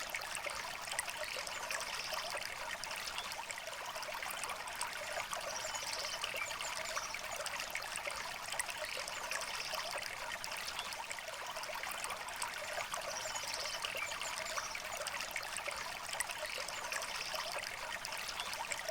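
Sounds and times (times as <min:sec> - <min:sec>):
river water trickling: 0:00.0 - 0:18.9.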